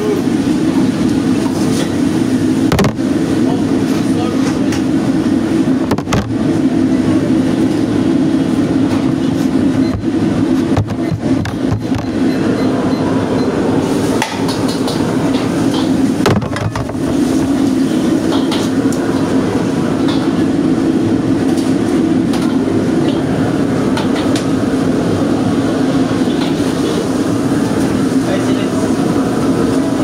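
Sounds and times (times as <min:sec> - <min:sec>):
wok burner roaring: 0:00.0 - 0:30.0.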